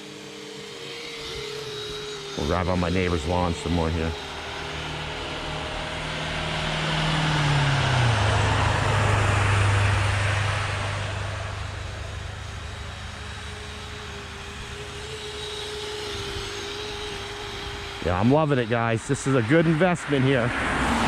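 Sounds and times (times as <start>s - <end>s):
toy vehicle motor hum: 0.0s - 21.0s.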